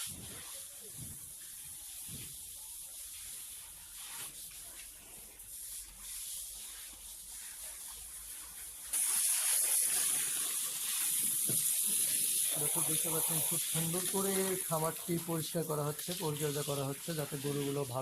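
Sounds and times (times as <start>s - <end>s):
water spraying: 0.0s - 18.0s.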